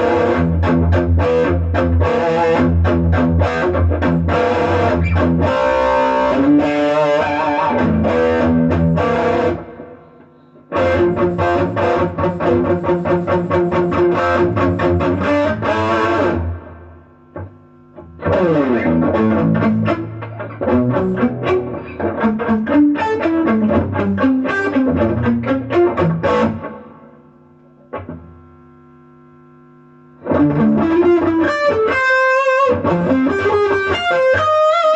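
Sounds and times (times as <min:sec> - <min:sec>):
electric guitar playing: 0:00.0 - 0:28.8, 0:30.0 - 0:34.9
faint amp hum: 0:00.0 - 0:34.9.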